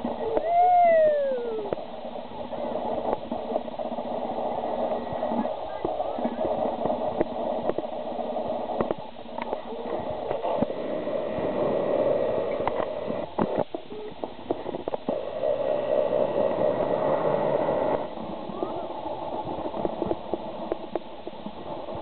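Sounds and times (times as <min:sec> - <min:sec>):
skis scraping over snow: 0:00.0 - 0:22.0
wind on microphone: 0:00.0 - 0:22.0.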